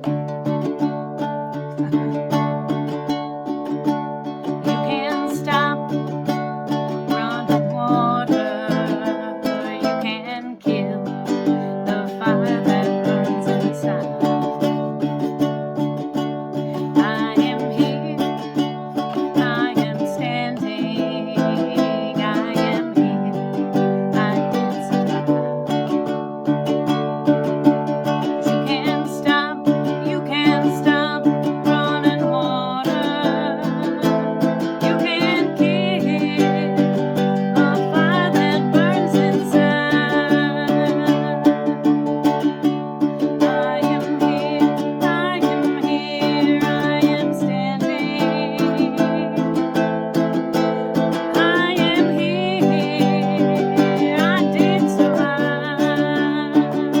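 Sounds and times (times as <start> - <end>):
plucked string instrument chords: 0.0 - 57.0.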